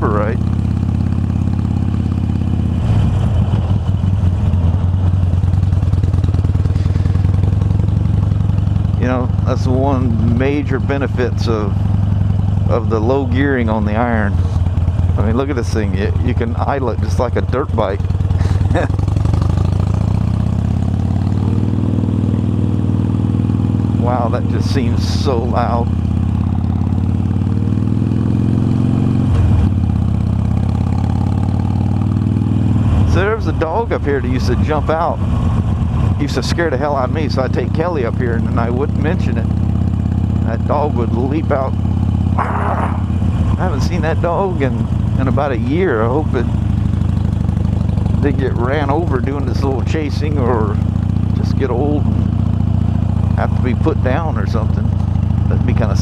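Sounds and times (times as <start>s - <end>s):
motorcycle engine at low revs: 0.0s - 56.0s.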